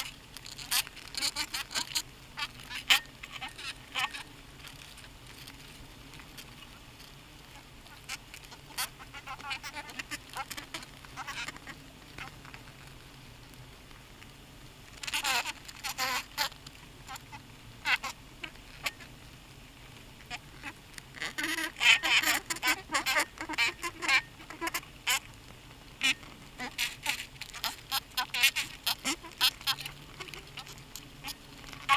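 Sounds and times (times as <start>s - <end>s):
bees crawling scratchy clicks: 0.0s - 14.4s, 15.0s - 19.2s, 19.8s - 31.9s.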